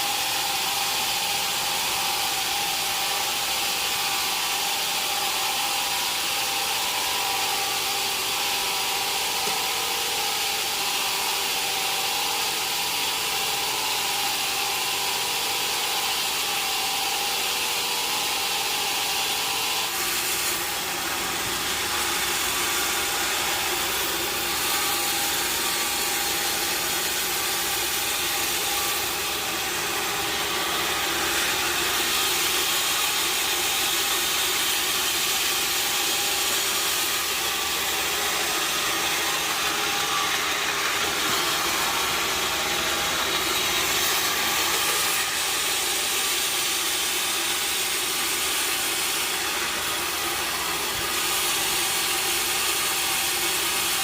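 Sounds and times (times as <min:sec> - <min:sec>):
saw cutting through wood: 0:00.0 - 0:54.0.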